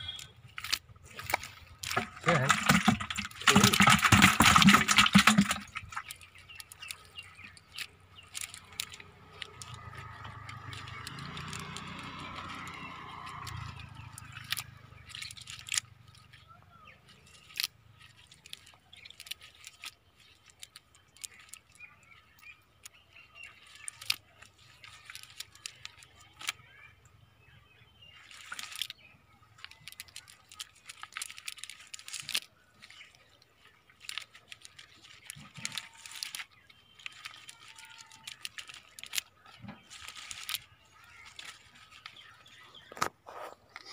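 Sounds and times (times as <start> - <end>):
clicks and crackles of fishing net: 0.0 - 27.2, 28.1 - 43.9.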